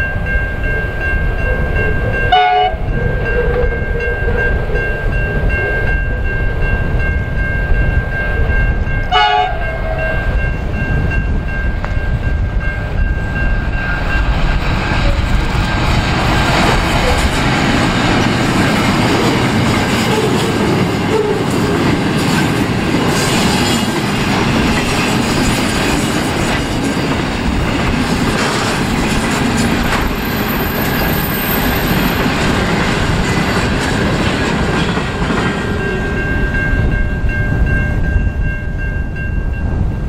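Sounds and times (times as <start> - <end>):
freight wagons rumbling on rails: 0.0 - 40.0.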